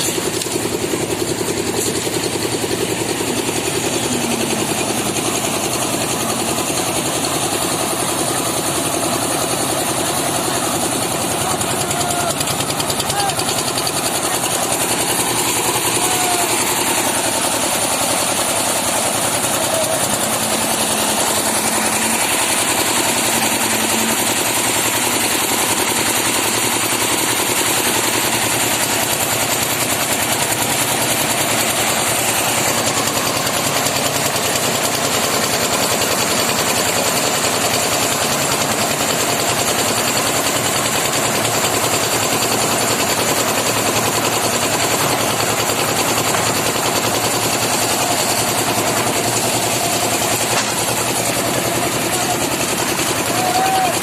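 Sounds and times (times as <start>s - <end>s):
machinery running with fast chatter: 0.0s - 54.0s.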